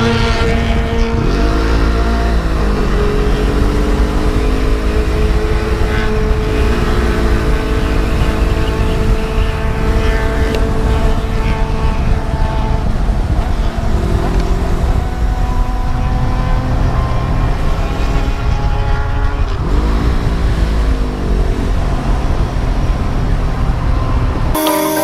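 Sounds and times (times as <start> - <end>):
motorcycle engine revving: 0.0 - 24.4
low wind rumble: 0.0 - 24.6.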